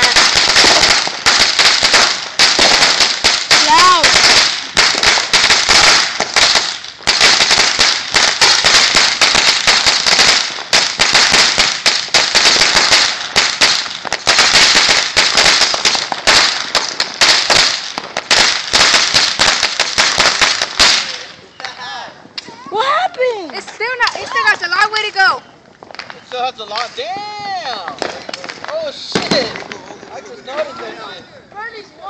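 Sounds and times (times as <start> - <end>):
firecrackers cracking and popping: 0.0 - 30.8.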